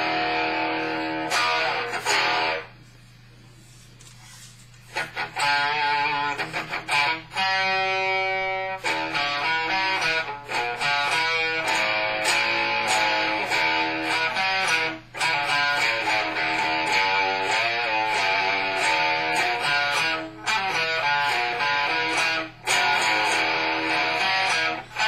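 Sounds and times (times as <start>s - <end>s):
electric guitar playing: 0.0s - 2.8s, 4.8s - 25.0s.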